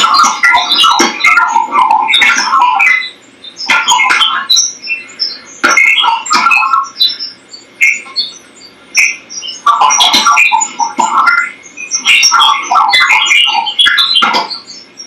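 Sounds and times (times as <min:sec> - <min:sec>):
bubbling electronic blips: 0:00.0 - 0:15.0.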